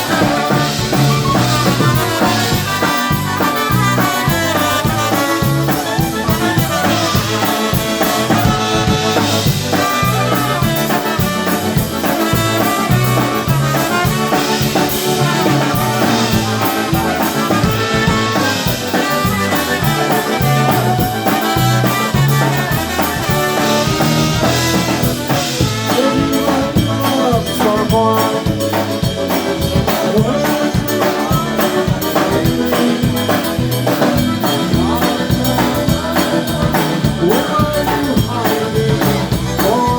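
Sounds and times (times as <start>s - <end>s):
drum kit beat: 0.0s - 39.9s
horns: 0.0s - 39.9s.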